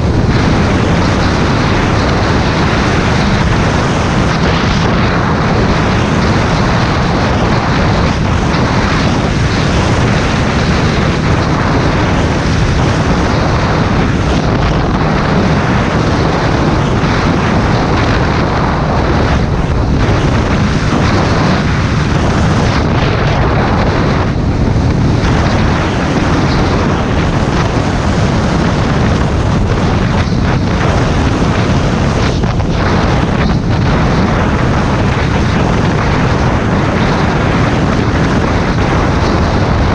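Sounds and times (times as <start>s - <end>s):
road noise: 0.0s - 39.9s
vehicle rumble: 0.0s - 39.9s
wind buffeting microphone: 0.0s - 39.9s.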